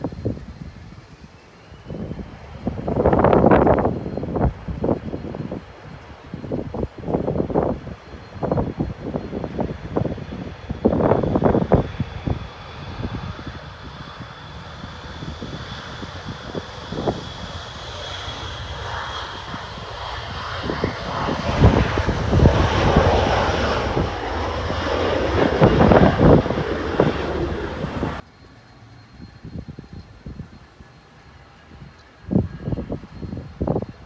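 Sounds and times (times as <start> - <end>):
jet engines roaring: 0.0 - 28.2
wind on microphone: 0.0 - 28.3, 29.1 - 34.0.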